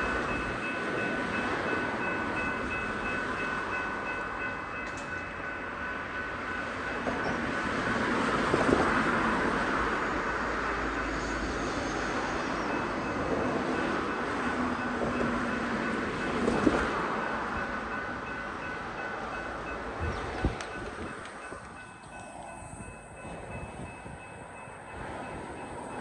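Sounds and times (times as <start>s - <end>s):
train knocks: 0.0s - 10.0s, 12.2s - 26.0s
crossing warning bell: 0.0s - 26.0s
train wheels rumbling on rails: 0.0s - 26.0s.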